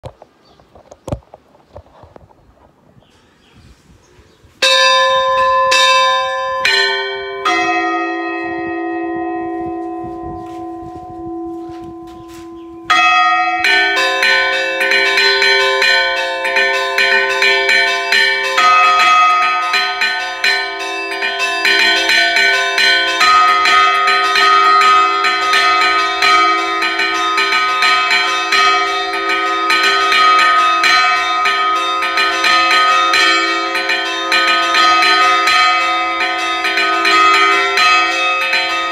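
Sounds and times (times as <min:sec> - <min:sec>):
church bells pealing: 0:04.6 - 0:38.9.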